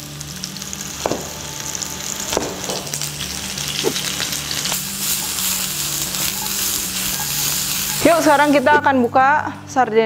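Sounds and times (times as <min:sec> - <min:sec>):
onion sizzling in hot oil: 0:00.0 - 0:08.9.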